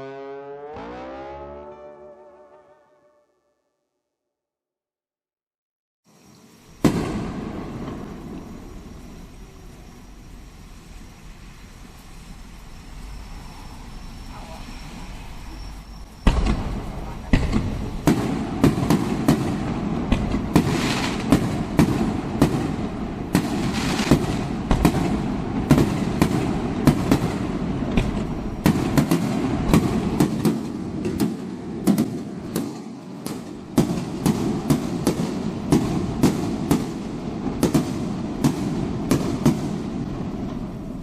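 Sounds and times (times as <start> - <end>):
fireworks bangs and crackles: 6.4 - 13.4, 14.0 - 41.0.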